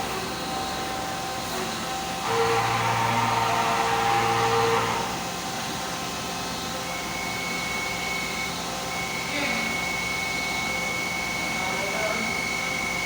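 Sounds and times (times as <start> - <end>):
machine motors humming: 0.0 - 13.0.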